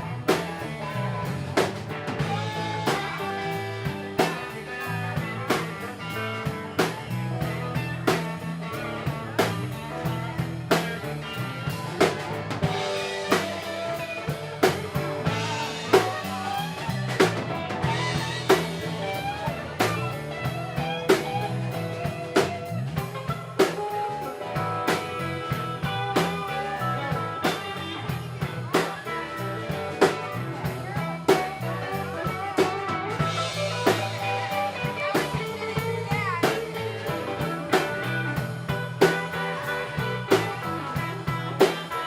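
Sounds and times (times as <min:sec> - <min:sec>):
live band playing: 0:00.0 - 0:42.0.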